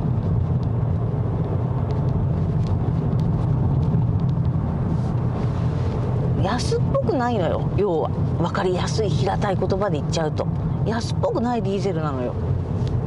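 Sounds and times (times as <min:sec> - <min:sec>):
car road and tyre rumble: 0:00.0 - 0:13.0.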